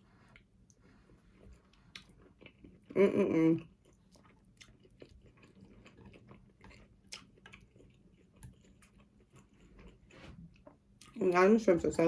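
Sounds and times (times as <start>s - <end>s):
faint chewing: 0.0s - 3.0s, 3.6s - 11.4s.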